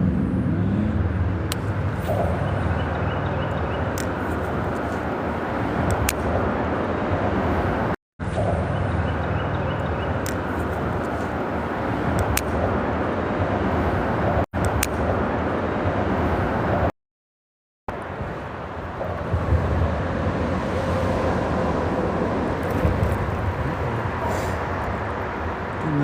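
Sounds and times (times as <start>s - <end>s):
traffic on bridge overhead: 0.0s - 16.9s, 17.9s - 26.0s.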